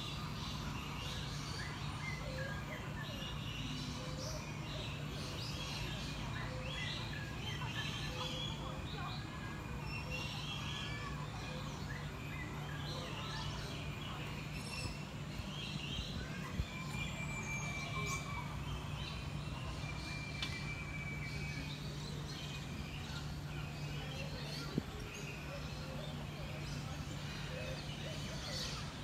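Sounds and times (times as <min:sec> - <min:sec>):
birds chirping and calling: 0:00.0 - 0:29.0.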